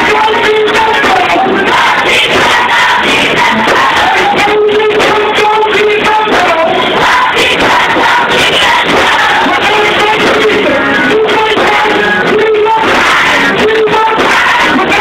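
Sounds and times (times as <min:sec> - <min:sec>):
band accompaniment: 0:00.0 - 0:15.0
children singing: 0:00.0 - 0:15.0.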